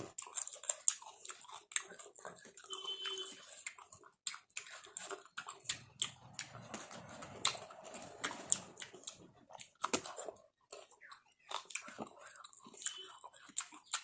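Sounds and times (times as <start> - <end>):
wet chewing and smacking: 0.0 - 14.0.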